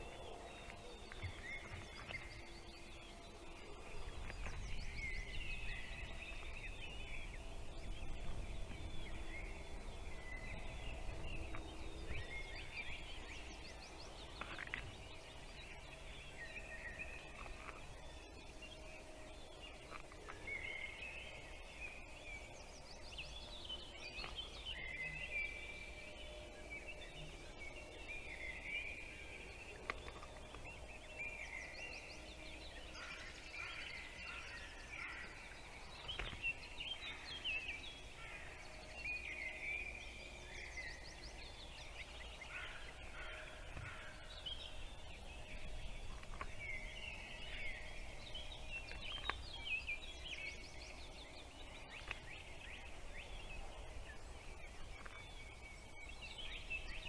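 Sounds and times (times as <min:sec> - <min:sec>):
faint low background noise: 0:00.0 - 0:57.0
small birds chirping: 0:00.0 - 0:57.0.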